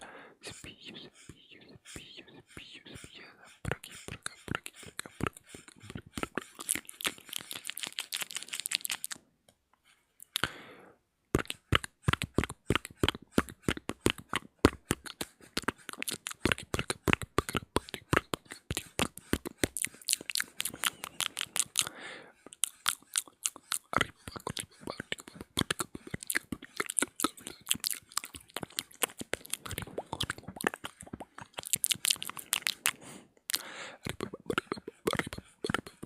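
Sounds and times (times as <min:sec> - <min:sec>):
wet tongue and lip clicks: 0:00.0 - 0:09.2, 0:10.2 - 0:10.6, 0:11.3 - 0:36.0.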